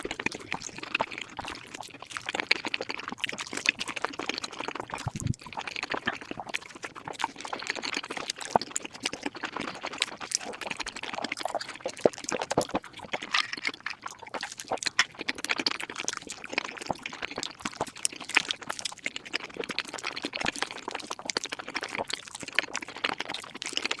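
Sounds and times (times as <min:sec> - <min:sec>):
rapid chewing and mouth-smacking: 0:00.0 - 0:24.0.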